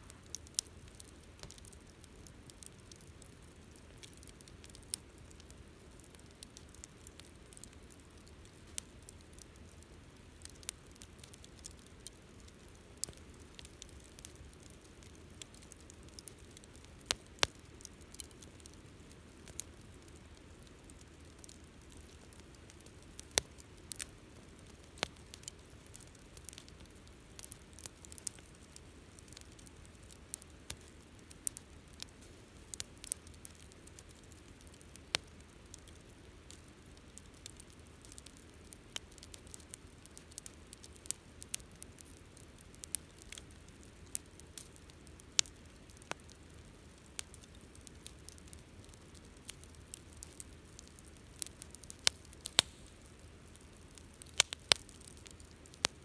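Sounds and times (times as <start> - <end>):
fire pops and snaps: 0.0 - 9.8, 10.4 - 56.0
wood campfire crackling: 0.0 - 56.0.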